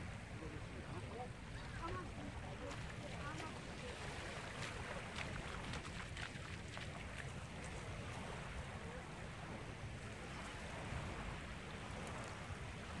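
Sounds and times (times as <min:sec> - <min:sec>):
faint splashes: 0:00.0 - 0:13.0
small waves washing in: 0:00.0 - 0:13.0
wind rumbling on microphone: 0:00.0 - 0:13.0.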